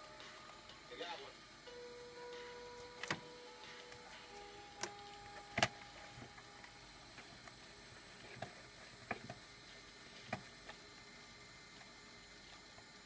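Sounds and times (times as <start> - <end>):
computer humming: 0.0 - 13.0.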